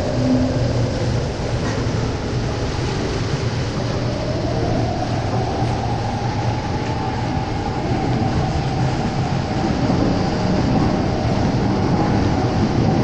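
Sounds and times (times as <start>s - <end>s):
metro train rumble and hiss: 0.0s - 13.0s.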